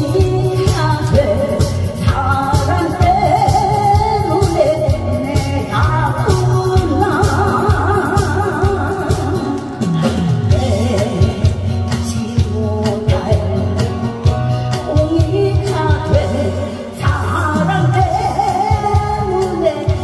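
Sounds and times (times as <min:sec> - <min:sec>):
amplified singing: 0:00.0 - 0:20.0
backing music with bass and drums: 0:00.0 - 0:20.0.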